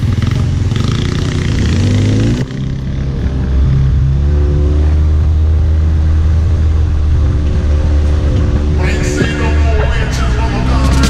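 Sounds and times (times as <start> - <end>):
buggy engine revving: 0.0 - 11.0.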